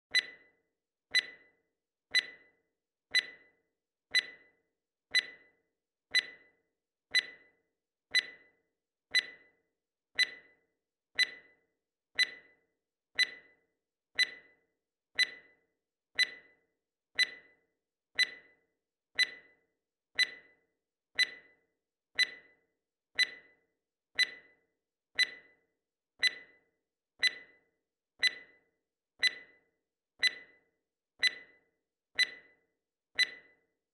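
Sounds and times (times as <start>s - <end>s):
clock-like ticks: 0.0s - 33.8s.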